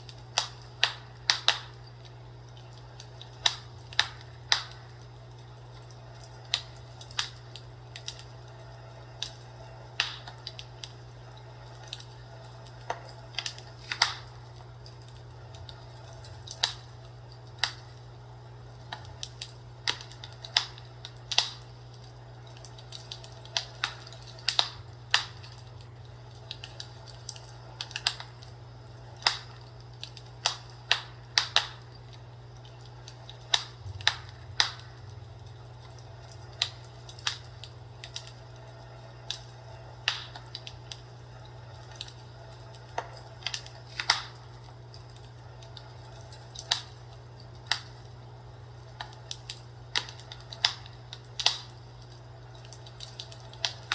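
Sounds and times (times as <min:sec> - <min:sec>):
fireplace crackling: 0:00.0 - 0:53.9
steady low hum: 0:00.0 - 0:53.9.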